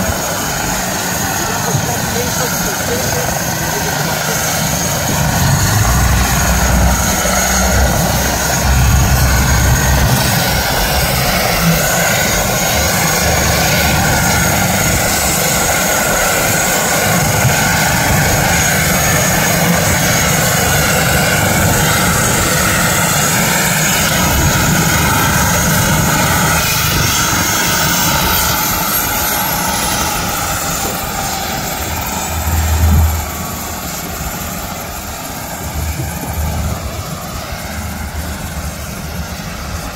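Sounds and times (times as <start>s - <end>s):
helicopter turbine whine: 0.0s - 39.9s
low rumbling surges: 0.0s - 39.9s
rotor wash: 0.0s - 39.9s.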